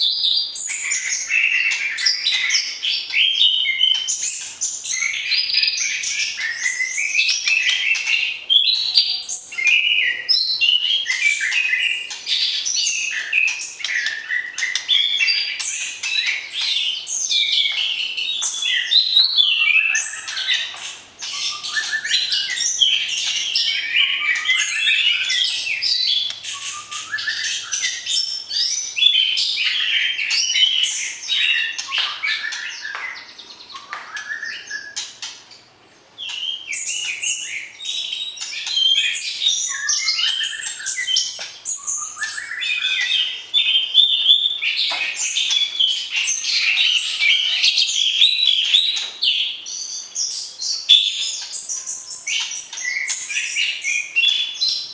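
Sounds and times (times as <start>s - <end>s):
bird singing whistled song: 0.0s - 35.4s, 36.2s - 54.9s.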